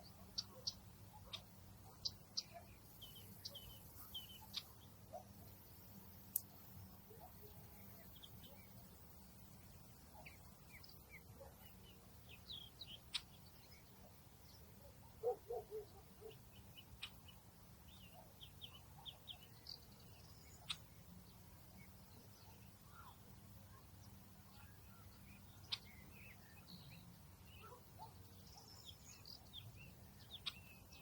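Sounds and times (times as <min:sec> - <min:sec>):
low steady background noise: 0:00.0 - 0:31.0
small birds chirping: 0:00.0 - 0:31.0.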